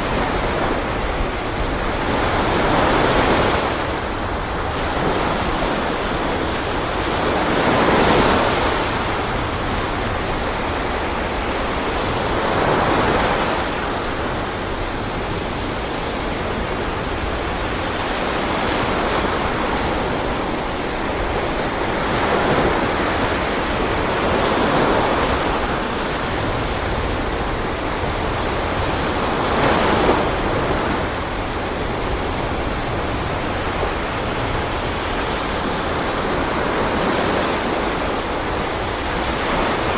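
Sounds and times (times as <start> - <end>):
sea washing along boat hull: 0.0 - 39.9.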